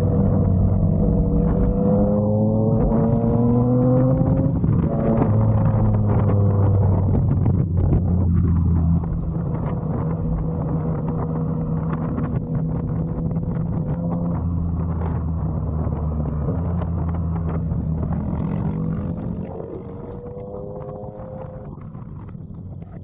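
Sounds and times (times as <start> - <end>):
motorcycle engine cruising: 0.0 - 23.0
wind noise: 0.0 - 23.0.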